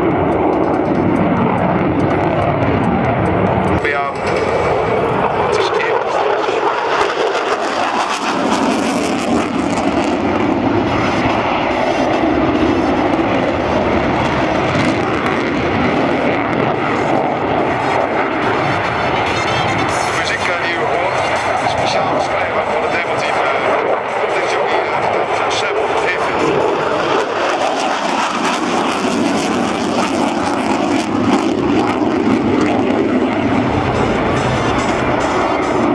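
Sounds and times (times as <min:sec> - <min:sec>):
aircraft engines droning: 0:00.0 - 0:35.9
plane flying overhead: 0:00.0 - 0:35.9.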